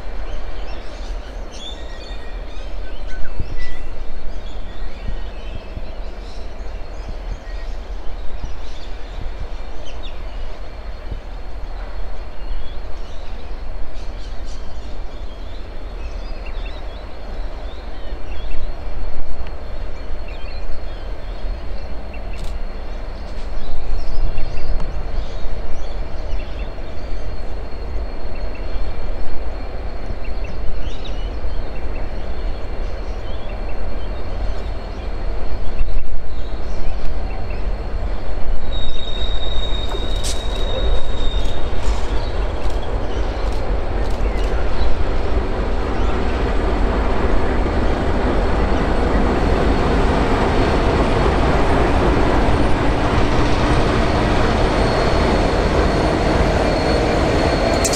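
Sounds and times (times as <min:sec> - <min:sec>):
diesel locomotives rumbling: 0:00.0 - 0:57.9.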